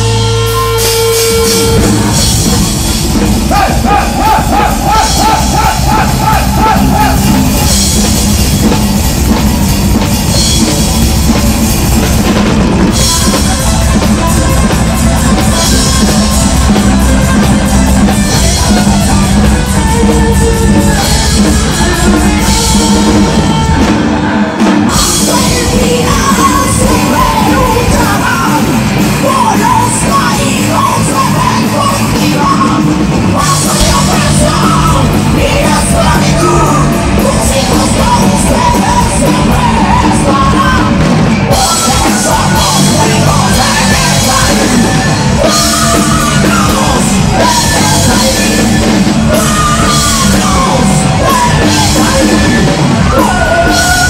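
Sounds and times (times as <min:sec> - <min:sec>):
sung and yelled vocals: 0:00.0 - 0:09.6, 0:11.8 - 0:54.0
heavy metal band playing: 0:00.0 - 0:54.0.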